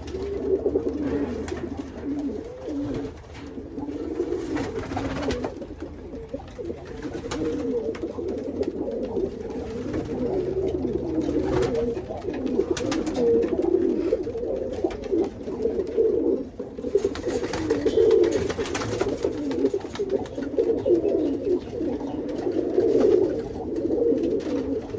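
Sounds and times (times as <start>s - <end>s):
pigeons cooing: 0.0s - 24.9s.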